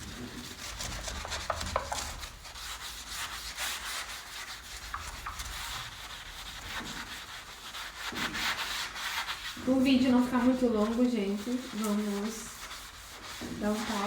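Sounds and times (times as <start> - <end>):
sponge scrubbing glass: 0.0 - 14.0.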